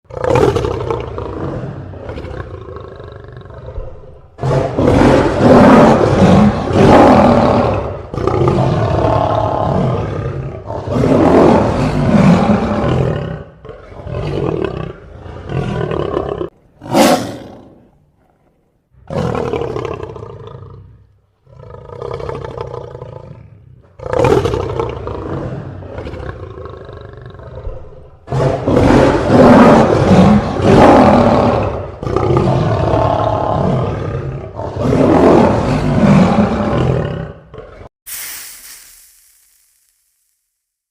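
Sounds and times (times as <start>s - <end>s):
lion roaring and growling: 0.1s - 37.9s.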